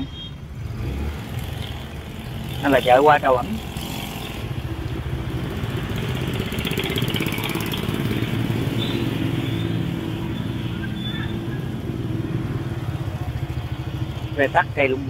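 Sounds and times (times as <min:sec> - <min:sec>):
motorcycle engine running: 0:01.4 - 0:15.0.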